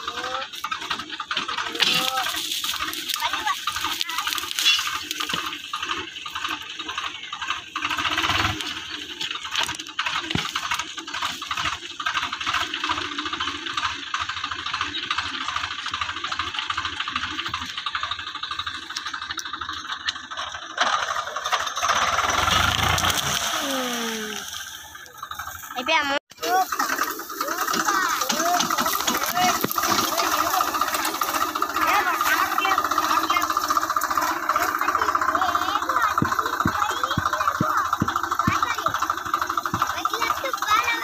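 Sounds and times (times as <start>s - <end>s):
rattle of repeated clicks: 0.0s - 41.0s
tractor diesel engine working: 0.0s - 41.0s.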